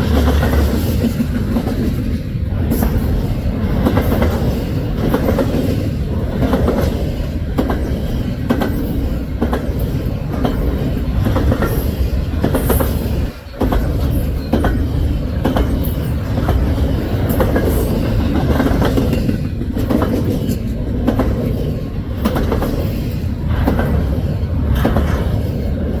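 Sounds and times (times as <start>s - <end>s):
freight train rumbling: 0.0s - 26.0s
wheels clacking over rail joints: 0.0s - 26.0s.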